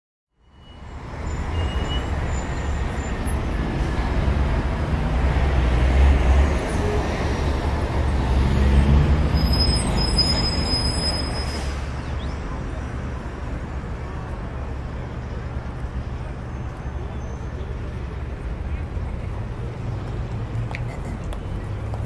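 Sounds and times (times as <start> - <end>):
road traffic rumble and hiss: 0.5 - 22.0.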